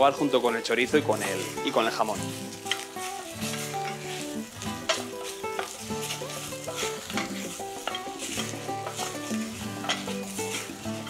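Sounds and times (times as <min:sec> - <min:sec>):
background music: 0:00.0 - 0:11.0
food sizzling in a pan: 0:00.0 - 0:11.0
spoon scraping a pan: 0:01.0 - 0:11.0.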